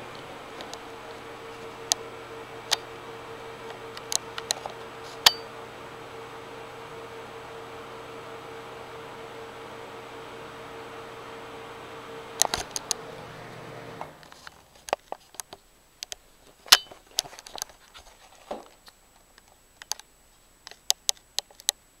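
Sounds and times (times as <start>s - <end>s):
ceiling exhaust fan humming: 0.0s - 22.0s.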